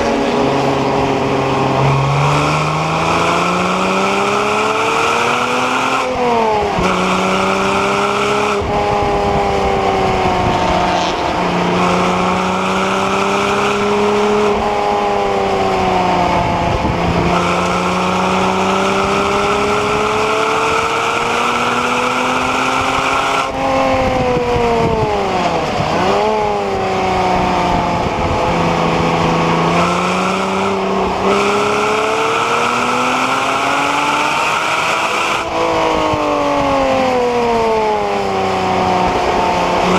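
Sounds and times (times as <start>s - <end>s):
car engine revving inside car: 0.0s - 39.9s.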